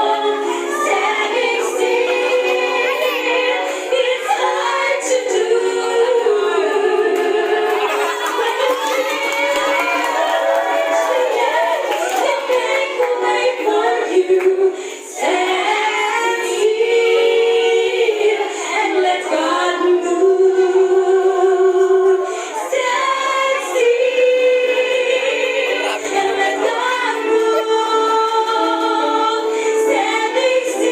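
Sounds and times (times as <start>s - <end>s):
voices singing together: 0.0s - 30.9s.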